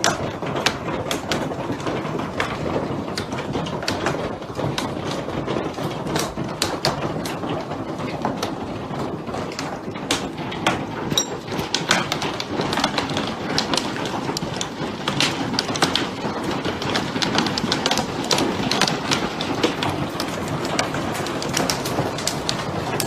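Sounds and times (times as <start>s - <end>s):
hailstones clattering on hard surfaces: 0.0s - 23.0s.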